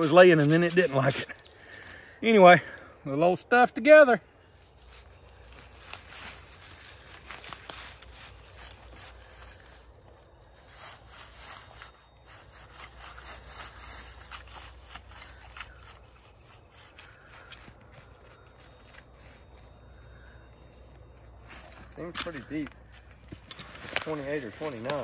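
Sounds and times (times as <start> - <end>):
dry leaves and twigs rustling: 0.0 - 2.8, 4.3 - 25.0.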